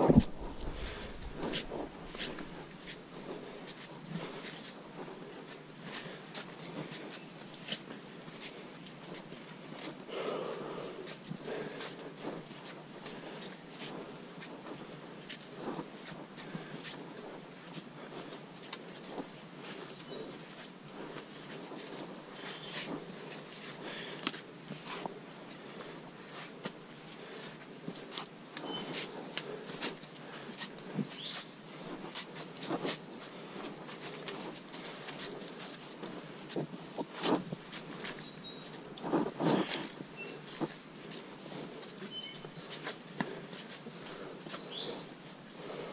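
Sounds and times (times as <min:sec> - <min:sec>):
clothing and plants rustling: 0:00.0 - 0:45.9
footsteps on muddy trail: 0:00.0 - 0:45.9.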